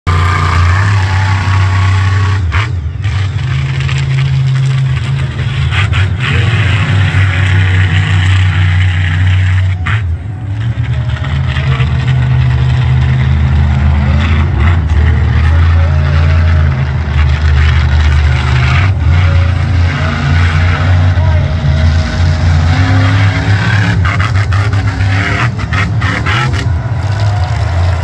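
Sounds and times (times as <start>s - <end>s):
monster truck engine revving: 0.1s - 28.0s.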